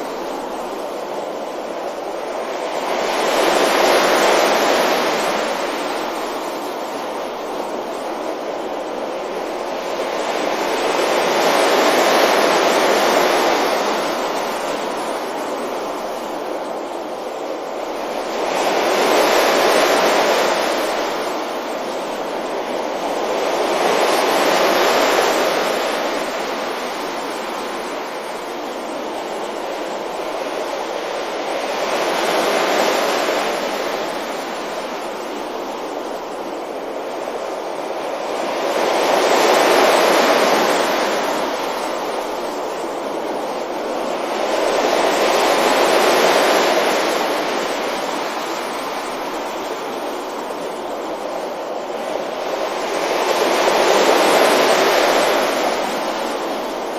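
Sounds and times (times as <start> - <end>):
waves breaking on a beach: 0.0 - 56.9.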